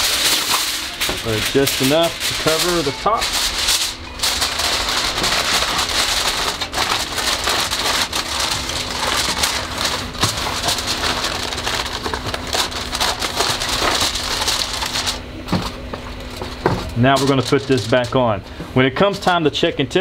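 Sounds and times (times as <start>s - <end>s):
aluminum foil crinkling: 0.0s - 19.4s.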